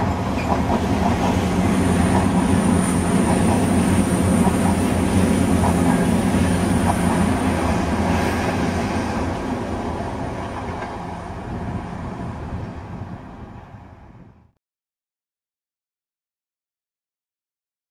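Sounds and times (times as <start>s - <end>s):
freight train wheels rumbling: 0.0s - 14.5s.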